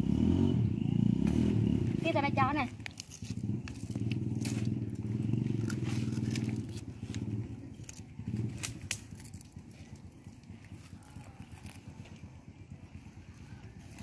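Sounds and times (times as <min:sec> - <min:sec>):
small engine droning: 0:00.0 - 0:14.0.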